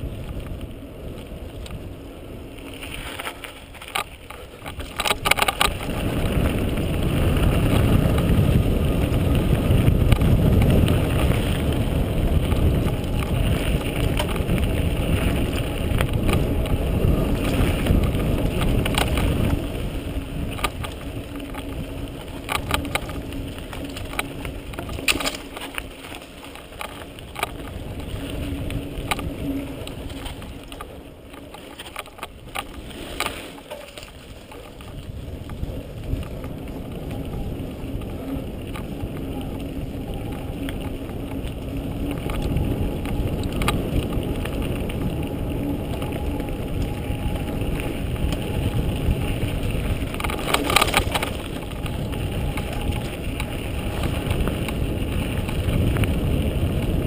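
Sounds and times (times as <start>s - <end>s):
bike rattles and knocks: 0.0s - 57.0s
wind and tyre noise: 0.0s - 57.0s.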